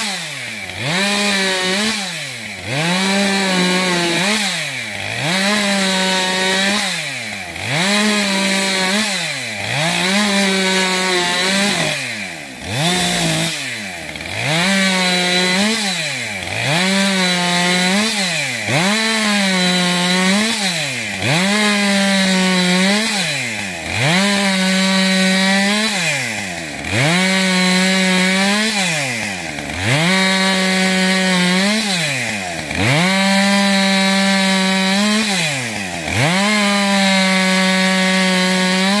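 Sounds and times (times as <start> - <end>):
chainsaw revving and cutting wood: 0.0 - 39.0.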